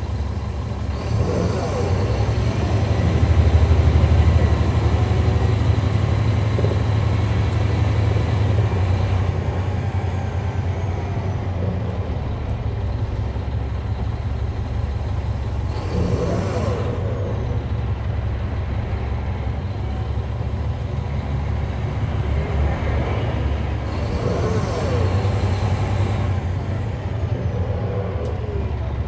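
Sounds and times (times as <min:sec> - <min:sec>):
bus diesel engine under load: 0:00.0 - 0:29.0.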